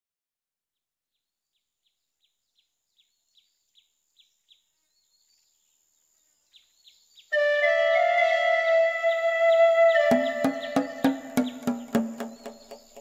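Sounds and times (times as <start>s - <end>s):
faint chirping calls: 1.2s - 13.0s.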